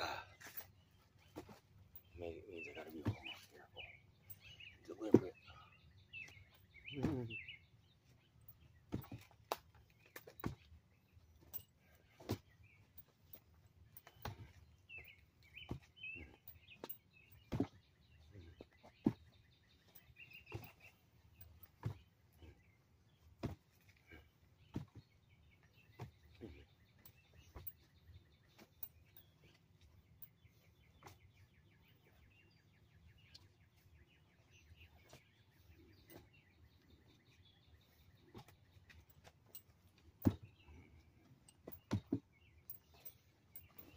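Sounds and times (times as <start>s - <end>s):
birds chirping faintly: 0.0s - 43.9s.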